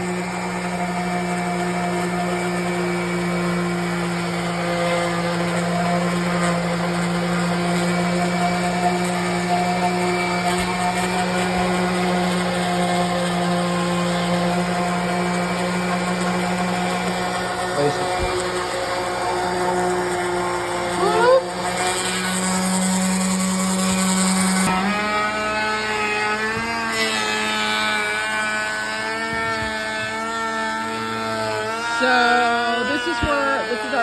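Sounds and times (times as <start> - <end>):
electric sander on log wall: 0.0 - 34.0.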